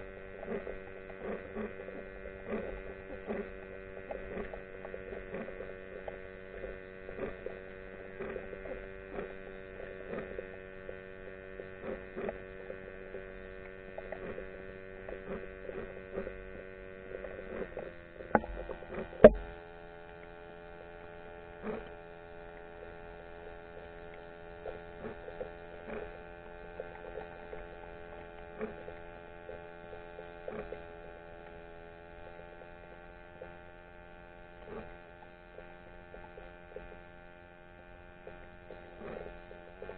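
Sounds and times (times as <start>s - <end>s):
underwater mechanical hum: 0.0s - 39.9s.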